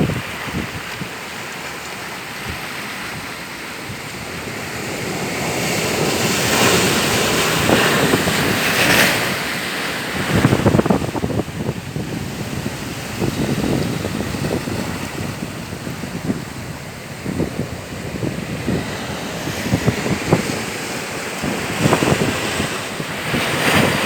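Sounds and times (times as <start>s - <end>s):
wind on microphone: 0.0s - 1.3s, 2.3s - 24.0s
sea waves washing in: 0.0s - 24.0s.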